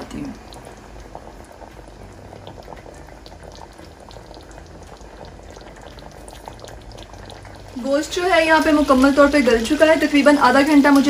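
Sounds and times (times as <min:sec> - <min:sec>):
curry bubbling with small pops: 0:00.0 - 0:11.0.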